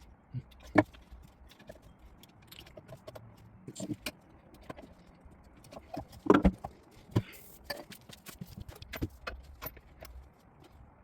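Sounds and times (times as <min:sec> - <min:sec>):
hand tools and metal parts clinking: 0:00.0 - 0:11.0.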